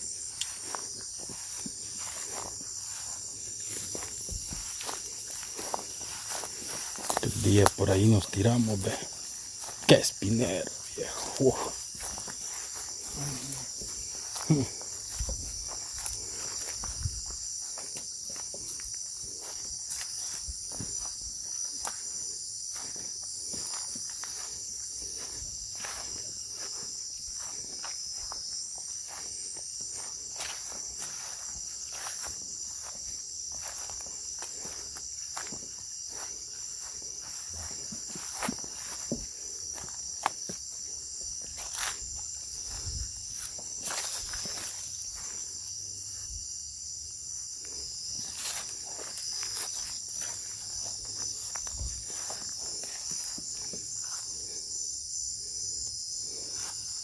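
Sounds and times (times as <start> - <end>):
crickets chirring: 0.0 - 57.0
footsteps in dry brush: 0.0 - 57.0.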